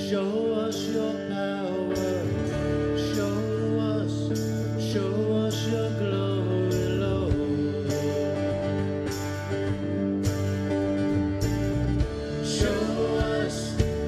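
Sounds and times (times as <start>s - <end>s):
worship band playing slow song: 0.0s - 14.0s.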